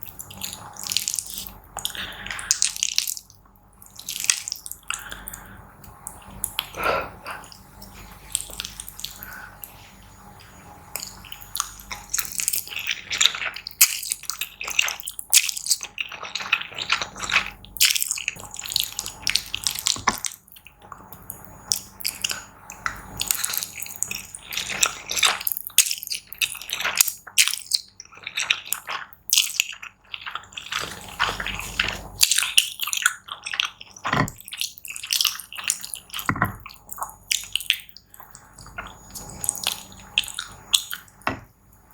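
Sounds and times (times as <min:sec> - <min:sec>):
wet chewing and mouth noises: 0:00.0 - 0:41.9.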